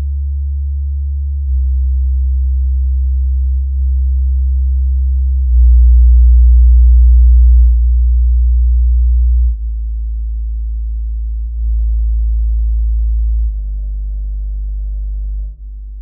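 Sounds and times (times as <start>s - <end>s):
low bass sine test tones: 0.0s - 16.0s.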